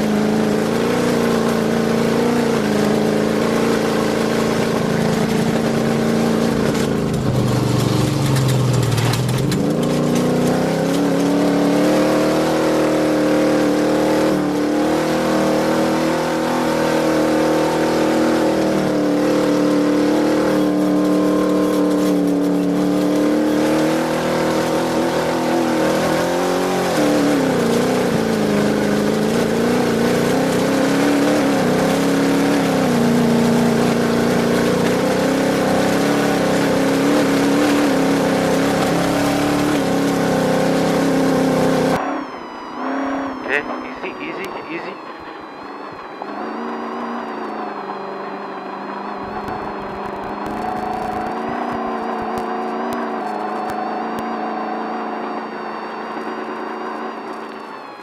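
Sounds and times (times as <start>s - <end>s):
truck engine running hard: 0.0s - 58.0s.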